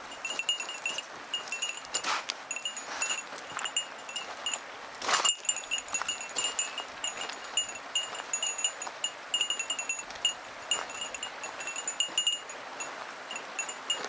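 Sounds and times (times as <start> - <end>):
small metal bell jingling: 0.0 - 14.0.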